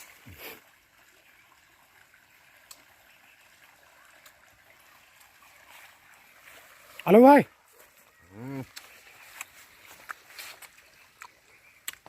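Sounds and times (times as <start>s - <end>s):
rushing running water: 0.0s - 11.0s.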